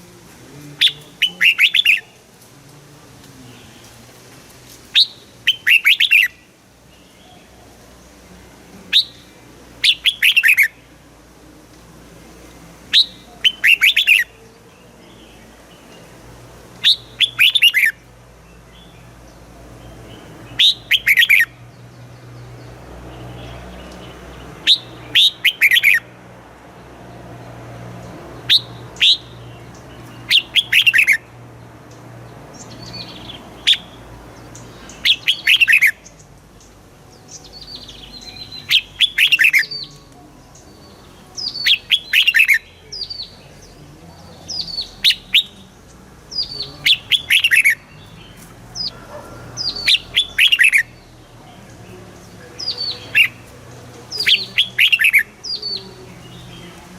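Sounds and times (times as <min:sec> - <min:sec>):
bulbul singing: 0:00.0 - 0:56.9.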